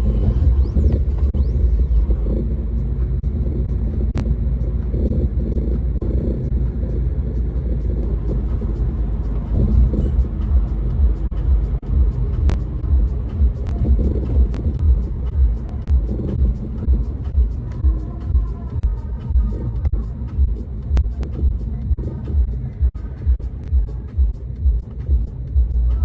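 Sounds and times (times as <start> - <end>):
car engine rumble: 0.0 - 26.0
road noise: 0.0 - 26.0.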